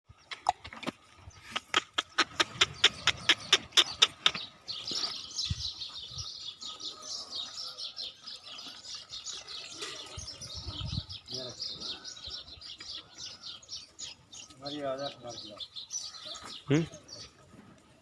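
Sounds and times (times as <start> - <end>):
small birds chirping: 0.1 - 18.0.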